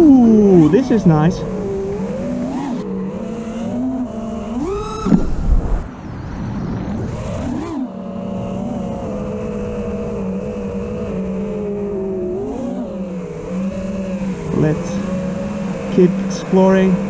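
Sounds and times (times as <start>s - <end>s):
quadcopter motors whining: 0.0s - 5.8s, 7.3s - 17.0s.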